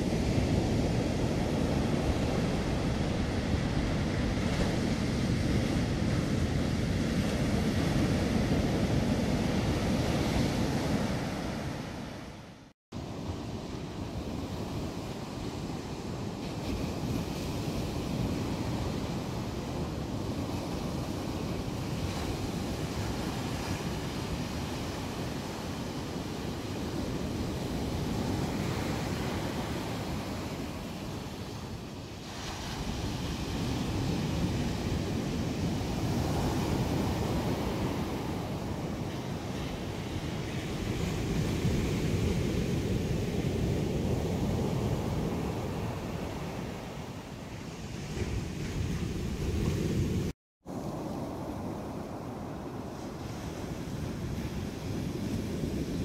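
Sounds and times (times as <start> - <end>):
surf waves breaking on beach: 0.0 - 56.0.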